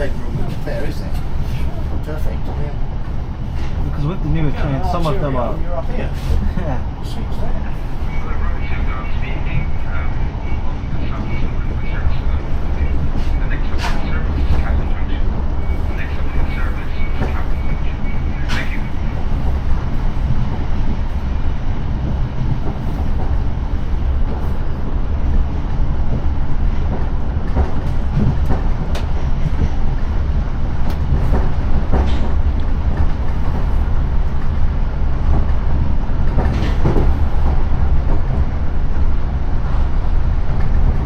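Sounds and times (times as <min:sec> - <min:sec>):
train rumble from inside carriage: 0:00.0 - 0:41.0.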